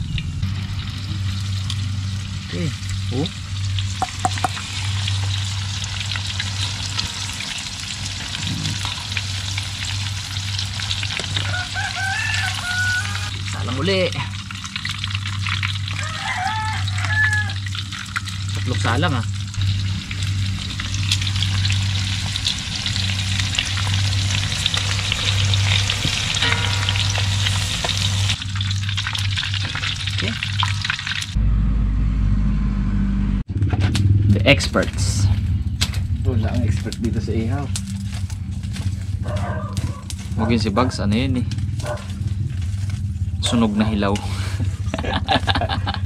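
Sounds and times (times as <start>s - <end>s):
low hum: 0.0s - 16.0s, 16.7s - 46.0s
oil sizzling and crackling: 0.0s - 31.4s, 34.7s - 46.0s.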